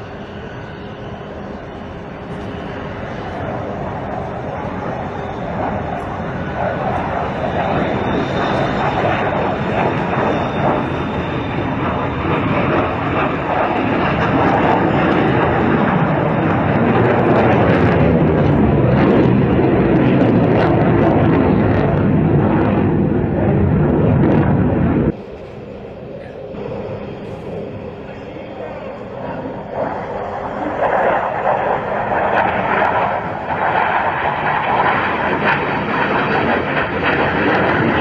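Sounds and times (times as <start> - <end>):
fighter jet roaring: 0.0 - 38.0.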